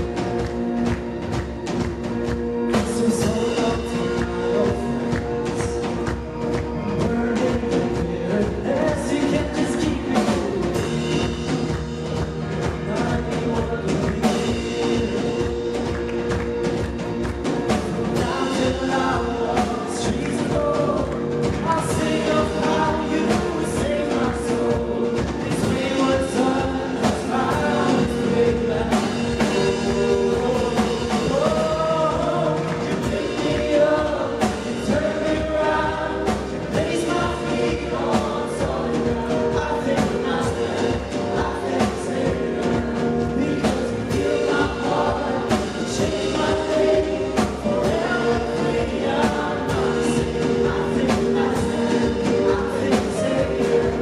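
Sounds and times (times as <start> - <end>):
voices singing together: 0.0 - 54.0
worship band playing gospel: 0.0 - 54.0.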